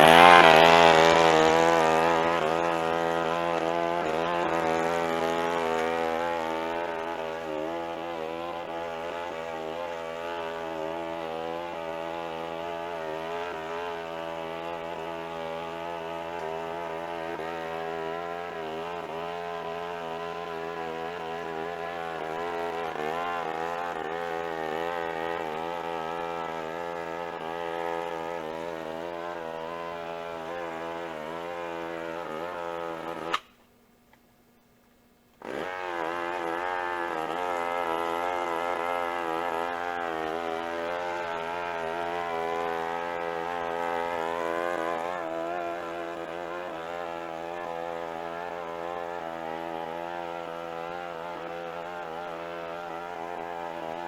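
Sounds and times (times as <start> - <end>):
lawn mower engine mowing: 0.0 - 33.7, 35.4 - 54.0.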